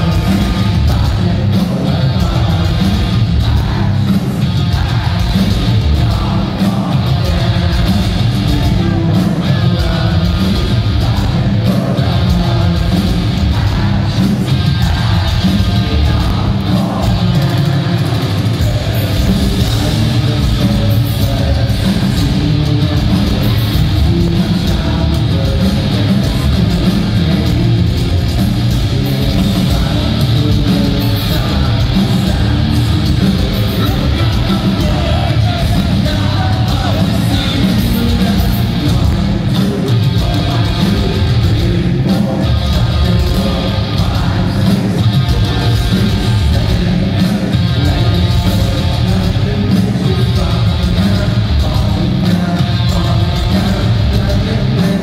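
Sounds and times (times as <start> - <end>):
live metal band playing: 0.0 - 55.0.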